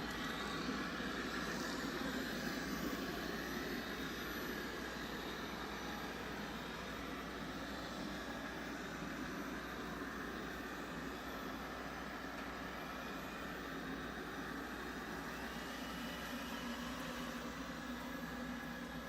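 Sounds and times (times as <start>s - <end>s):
robot vacuum whirring: 0.0s - 19.0s.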